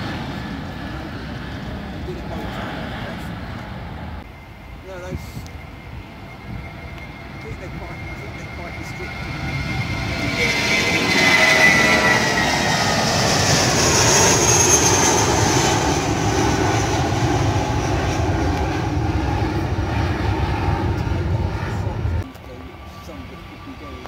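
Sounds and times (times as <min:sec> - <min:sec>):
jet engines at take-off: 0:00.0 - 0:24.0.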